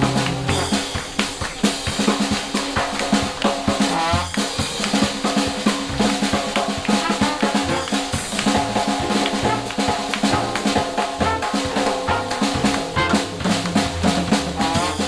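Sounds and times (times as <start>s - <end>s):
drum kit beat: 0.0s - 15.0s
jazz band playing live: 0.0s - 15.0s.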